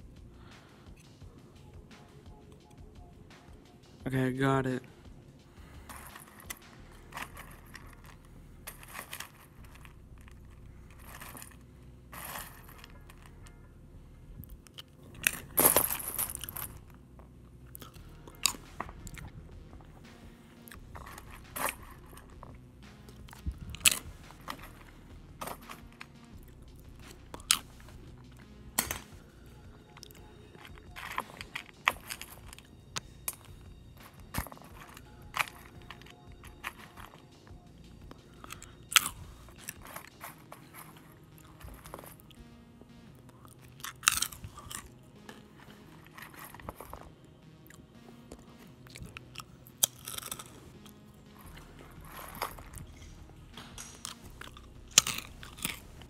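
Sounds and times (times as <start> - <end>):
cereal crunching: 5.7 - 13.5, 14.5 - 17.0, 17.6 - 19.4, 20.6 - 28.4, 29.8 - 42.5, 43.2 - 56.0.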